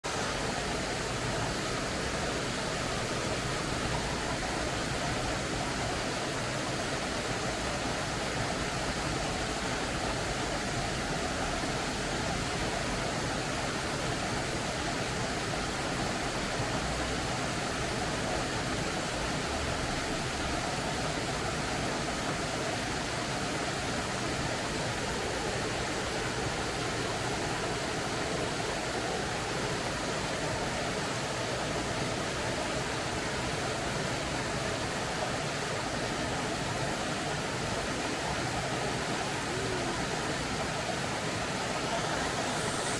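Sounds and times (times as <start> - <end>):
creek water rushing: 0.0 - 42.9.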